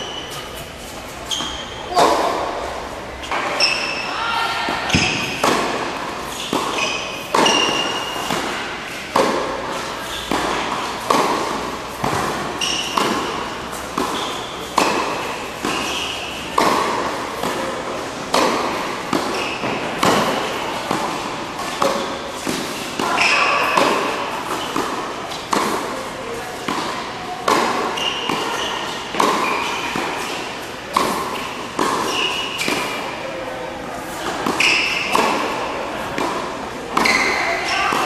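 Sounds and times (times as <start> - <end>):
tennis balls hit with rackets: 0.0 - 38.0.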